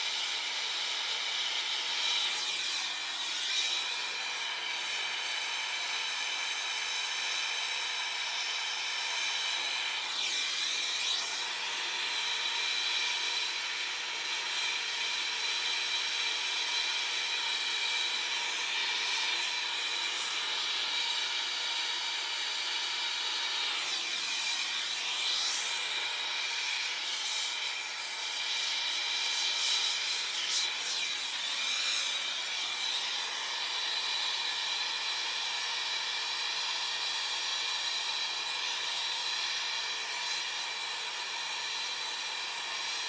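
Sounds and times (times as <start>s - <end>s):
torch burning with hissing rush: 0.0s - 36.0s.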